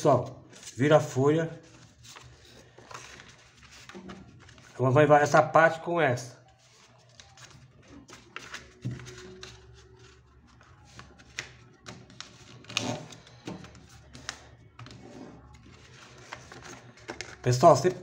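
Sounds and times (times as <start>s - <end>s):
paper being folded: 0.5s - 4.9s, 6.5s - 18.0s.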